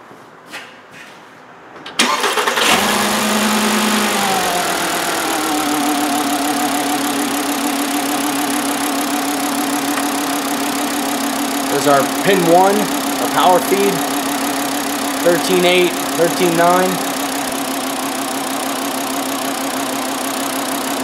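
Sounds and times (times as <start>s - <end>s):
car engine starting and idling: 1.9s - 21.0s.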